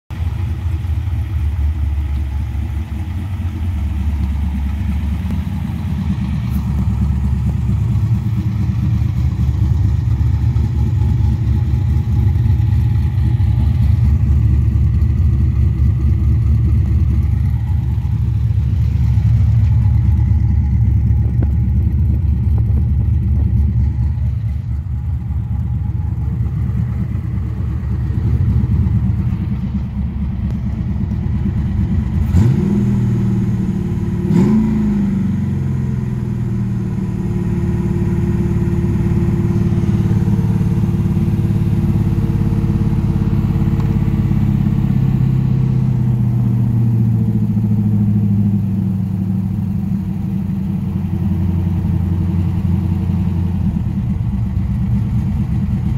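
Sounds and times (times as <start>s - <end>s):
deep engine exhaust note: 0.1s - 55.9s.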